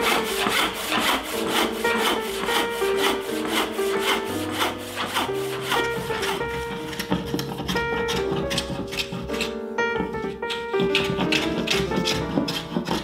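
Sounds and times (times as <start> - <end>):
background music: 0.0 - 13.0
hand saw cutting wood: 0.0 - 13.0.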